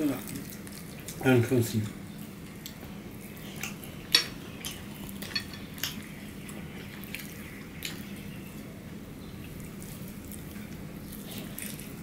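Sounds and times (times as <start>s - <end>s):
chewing: 0.0s - 1.3s, 2.1s - 8.8s, 9.4s - 12.0s
low steady hum: 0.0s - 12.0s.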